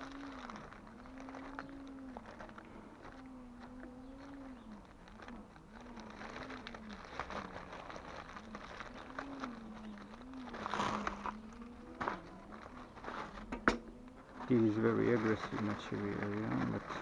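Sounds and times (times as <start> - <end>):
crackling and rustling: 0.0 - 17.0.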